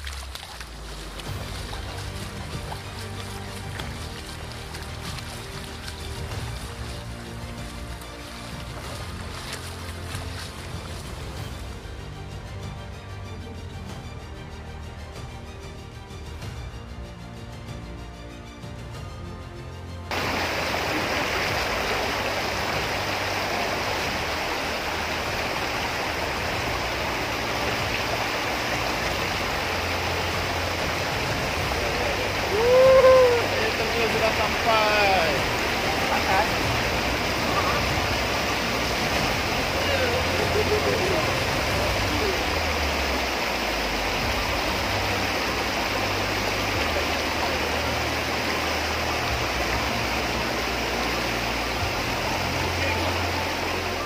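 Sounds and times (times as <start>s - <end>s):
waterfall rushing: 0.0s - 15.2s, 20.1s - 54.0s.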